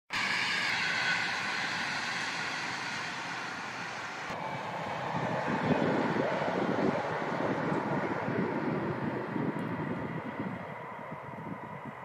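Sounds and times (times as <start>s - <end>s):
distant train passing: 0.1s - 12.0s
faint whining tones: 0.2s - 12.0s.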